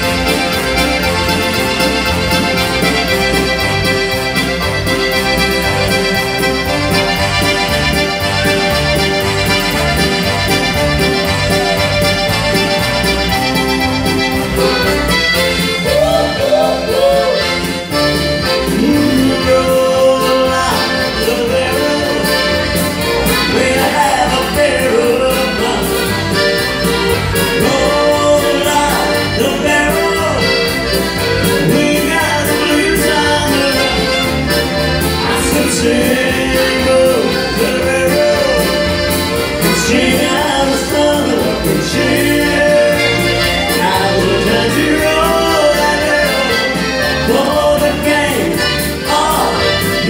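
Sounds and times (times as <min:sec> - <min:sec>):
accordion tune: 0:00.0 - 0:50.0
keyboard backing with bass beat: 0:00.0 - 0:50.0.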